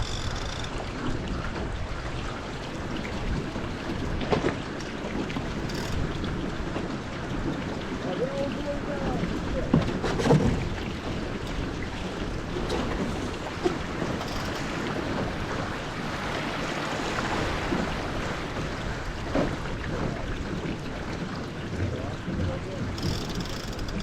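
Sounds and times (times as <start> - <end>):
water rushing past hull: 0.0 - 24.0.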